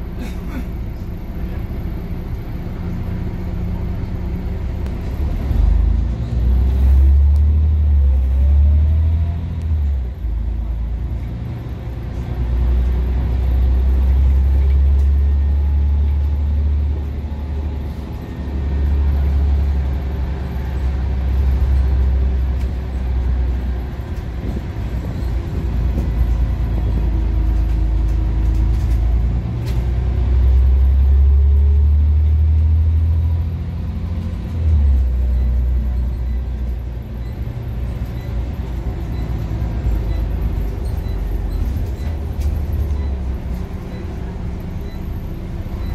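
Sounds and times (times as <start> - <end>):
bus engine drone: 0.0 - 45.9.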